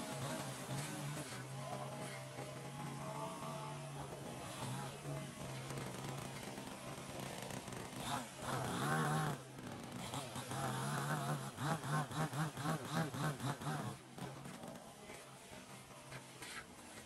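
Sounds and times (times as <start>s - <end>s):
chainsaw engine revving: 0.0s - 14.8s.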